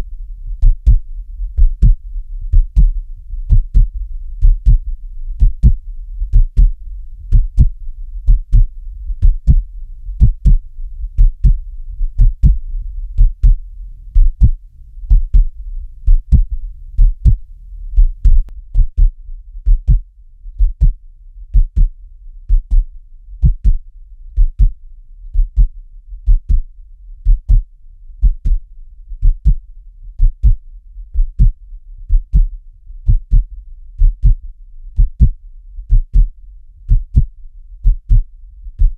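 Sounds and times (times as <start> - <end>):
heartbeat thumps: 0.0 - 23.8, 24.4 - 28.6, 29.2 - 29.6, 30.2 - 38.9
steady low rumble: 0.0 - 38.9.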